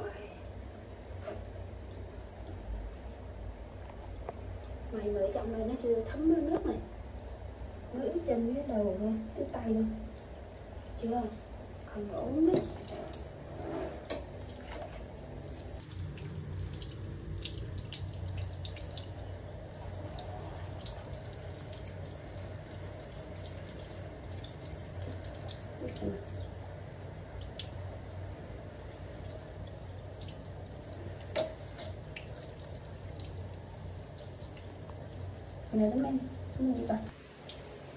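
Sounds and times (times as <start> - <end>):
shower spraying water: 0.0 - 37.9.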